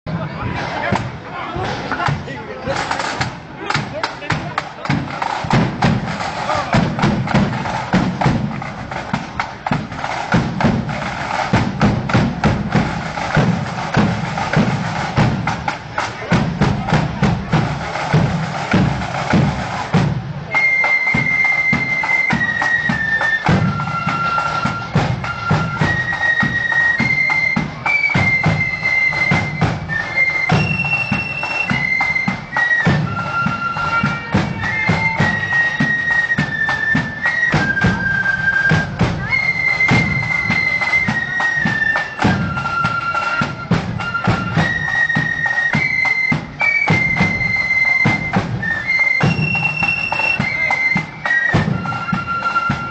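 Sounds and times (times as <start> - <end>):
flutes playing in unison: 0.1 - 52.9
snare and bass drums: 0.1 - 52.9.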